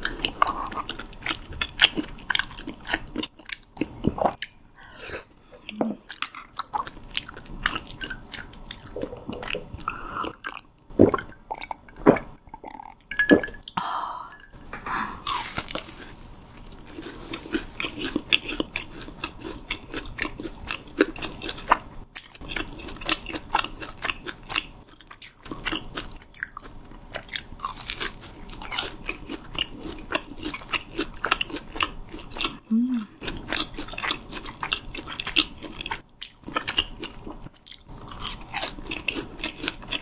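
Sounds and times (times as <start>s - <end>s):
chewing and crunching snack food: 0.0s - 4.6s, 5.6s - 11.9s, 15.2s - 40.0s.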